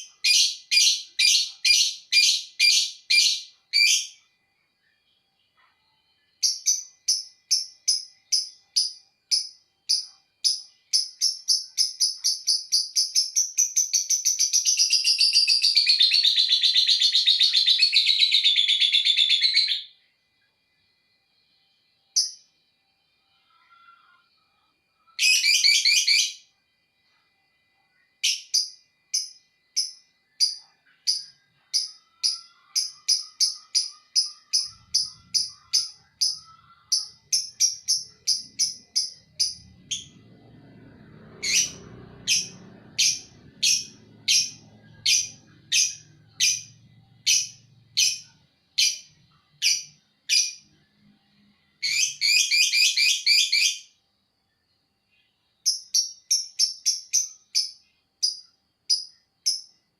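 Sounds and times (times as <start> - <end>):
bird chirps: 0.0 - 20.0, 27.9 - 59.9.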